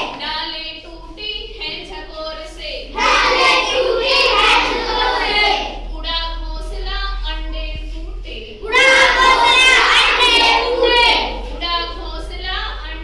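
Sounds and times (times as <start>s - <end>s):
children singing a rhyme: 0.0s - 0.4s, 1.6s - 7.5s, 8.2s - 13.0s.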